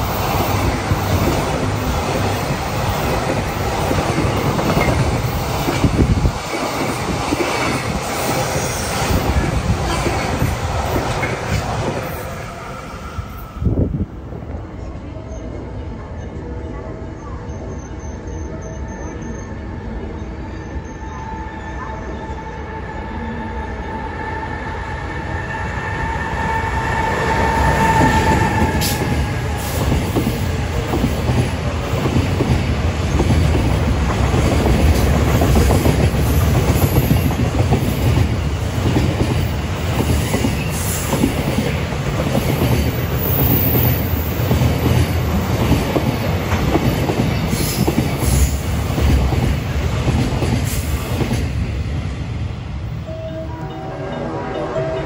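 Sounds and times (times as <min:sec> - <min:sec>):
train wheels rumbling on rails: 0:00.0 - 0:15.7, 0:21.8 - 0:53.1
train whine: 0:00.0 - 0:55.0.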